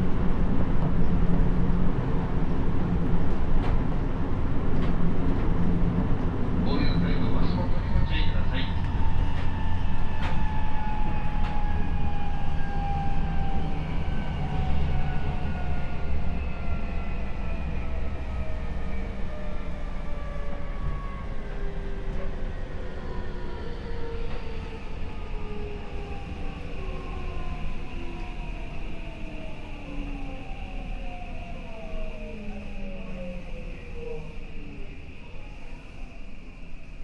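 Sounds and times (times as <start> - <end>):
rumble of train wheels: 0.0 - 37.0.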